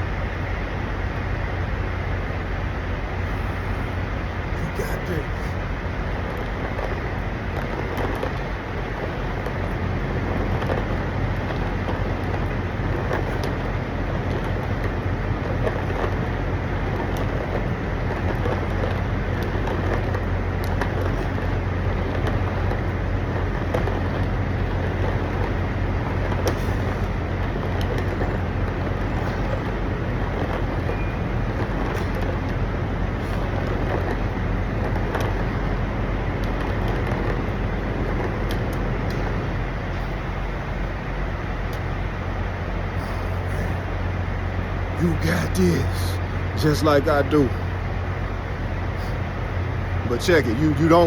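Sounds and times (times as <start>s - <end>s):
constant low hum: 0.0s - 51.0s
traffic rumble: 0.0s - 51.0s.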